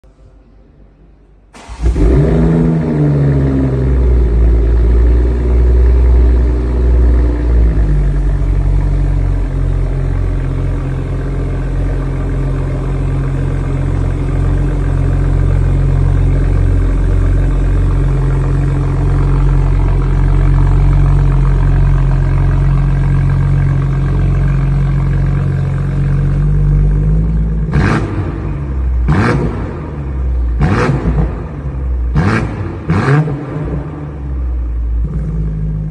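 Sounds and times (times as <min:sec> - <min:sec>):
car engine idling: 0:01.4 - 0:35.9.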